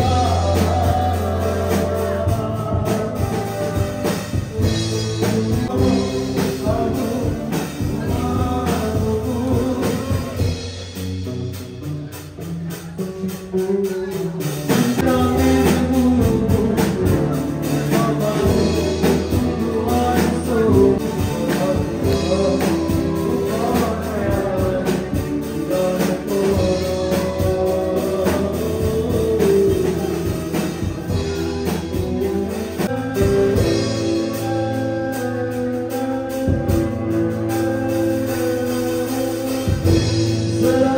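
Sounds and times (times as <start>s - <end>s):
electric guitar: 0.0s - 40.9s
keyboard: 0.0s - 40.9s
man singing: 0.0s - 40.9s
steady drum beat: 0.0s - 40.9s.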